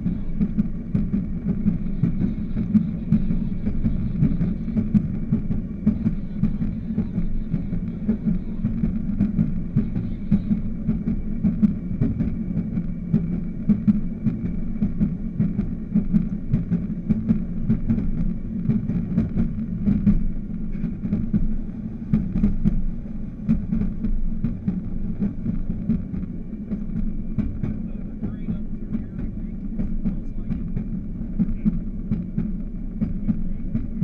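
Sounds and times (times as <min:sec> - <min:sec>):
small engine droning: 0:00.0 - 0:34.0
wheels clicking on rails: 0:00.0 - 0:34.0.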